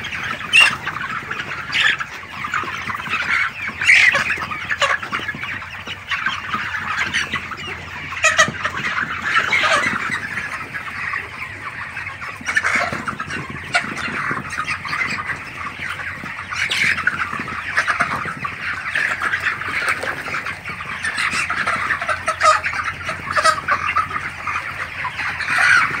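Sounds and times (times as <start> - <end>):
chicken squawks: 0.0 - 26.0
chickens clucking and peeping: 0.0 - 26.0.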